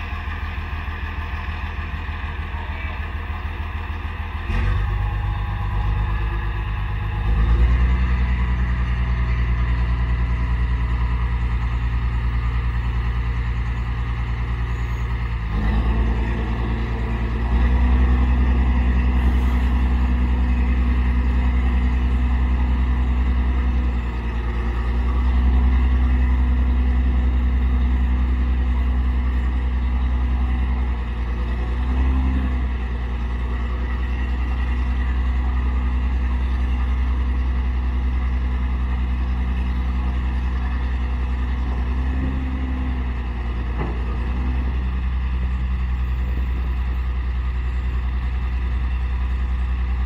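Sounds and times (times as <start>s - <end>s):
diesel truck engine running: 0.0s - 50.0s.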